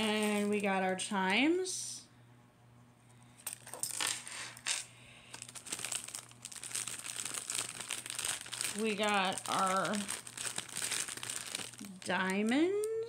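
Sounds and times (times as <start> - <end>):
plastic bags rustling: 0.0 - 1.1, 3.5 - 13.0.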